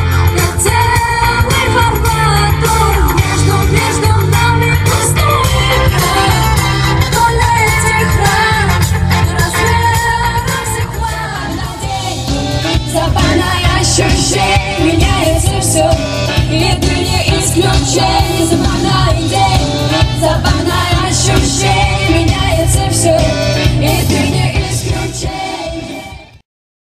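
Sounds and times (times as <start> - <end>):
backing track with low bass: 0.0 - 26.4
women singing pop song: 0.0 - 26.4.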